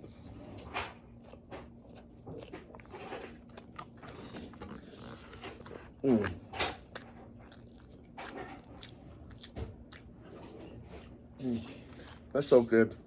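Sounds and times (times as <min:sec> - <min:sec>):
person chewing a burger: 0:00.0 - 0:11.6.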